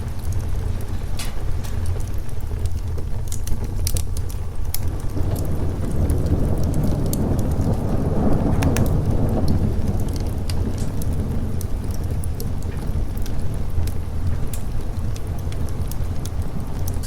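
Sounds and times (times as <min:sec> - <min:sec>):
steady rain: 0:00.0 - 0:17.0
thunder rolling: 0:00.0 - 0:17.0
wood fire crackling: 0:00.0 - 0:17.0.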